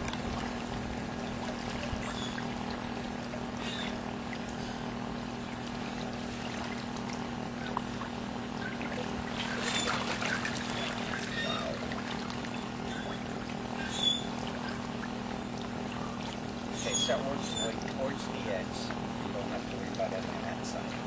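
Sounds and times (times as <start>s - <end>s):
pond water trickling and sloshing: 0.0s - 21.0s
steady low hum: 0.0s - 21.0s.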